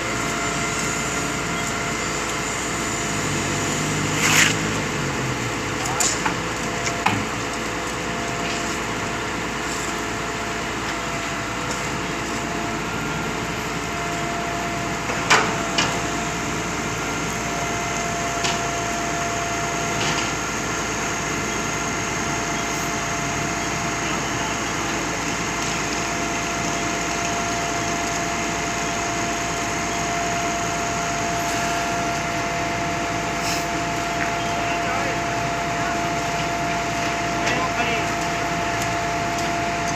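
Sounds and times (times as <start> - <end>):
pump engine running: 0.0 - 39.9
steady machine whine: 0.0 - 39.9.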